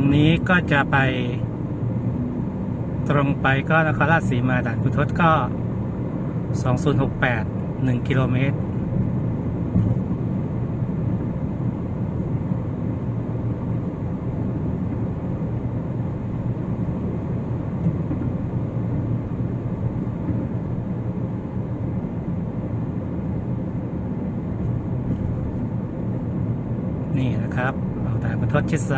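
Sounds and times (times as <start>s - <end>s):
car engine cruising: 0.0s - 28.9s
tyres rumbling on concrete road: 0.0s - 28.9s.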